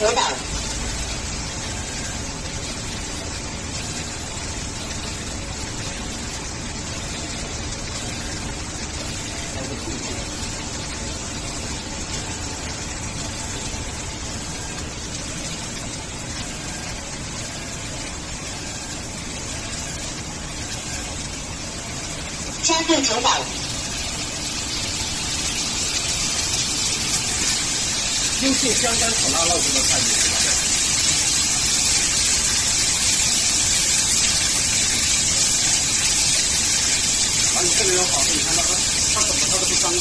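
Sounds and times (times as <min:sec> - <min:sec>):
food sizzling in wok: 0:00.0 - 0:40.0
stir-fry machine running: 0:00.0 - 0:40.0.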